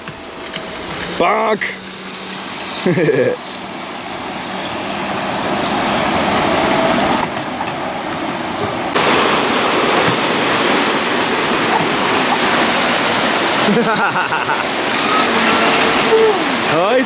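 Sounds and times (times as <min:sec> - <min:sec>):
water rushing through dam gate: 0:00.0 - 0:17.0.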